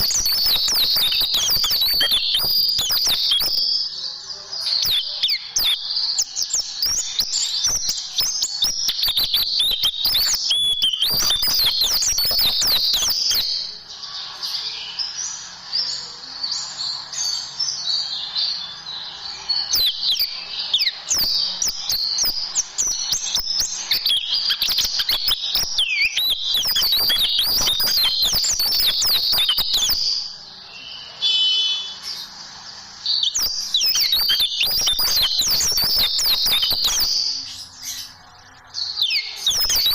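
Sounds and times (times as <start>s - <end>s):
bird twittering and trilling: 0.0s - 39.9s.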